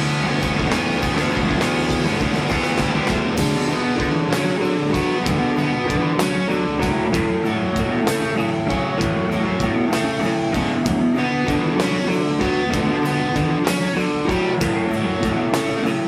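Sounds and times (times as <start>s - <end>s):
bass guitar: 0.0s - 16.0s
drum kit and cymbals: 0.0s - 16.0s
electric guitar chords: 0.0s - 16.0s.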